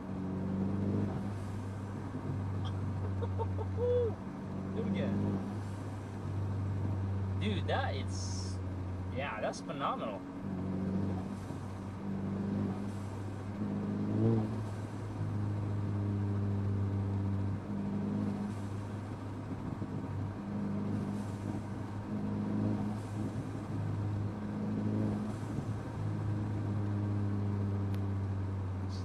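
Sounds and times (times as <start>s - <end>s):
car engine pulling under throttle: 0.0s - 29.0s.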